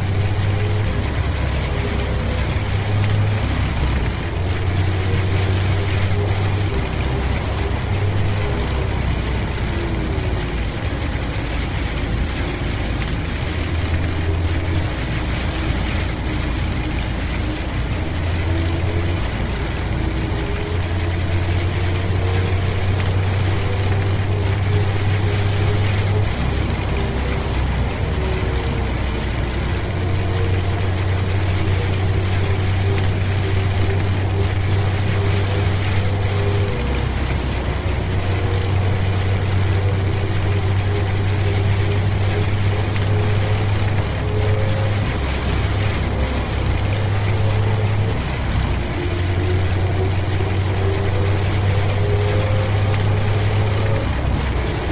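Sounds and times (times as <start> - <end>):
car engine and road rumble: 0.0 - 54.9
rain hissing on wet road: 0.0 - 54.9.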